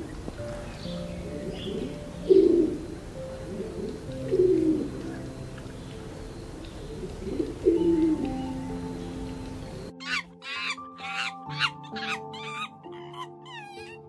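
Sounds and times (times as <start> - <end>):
pigeon cooing: 0.0 - 14.0
soft background music: 0.0 - 14.0.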